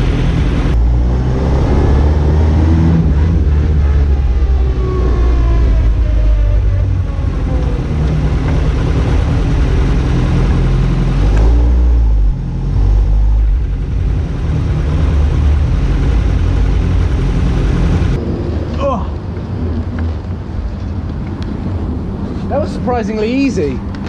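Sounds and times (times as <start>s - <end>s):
car engine at low revs: 0.0s - 21.7s.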